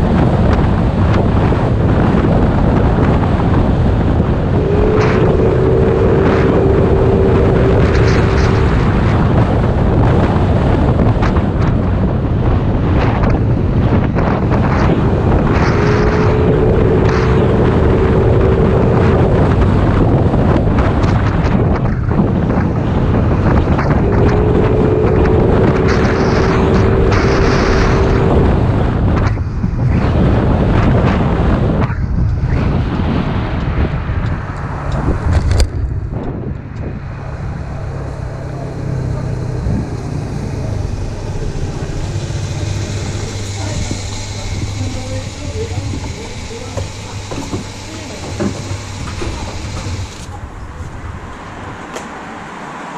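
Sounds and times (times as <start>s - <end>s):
scooter engine riding: 0.0s - 30.0s, 33.6s - 52.9s
wind buffeting microphone: 0.0s - 52.9s
steady hum: 0.6s - 33.0s, 34.0s - 52.9s.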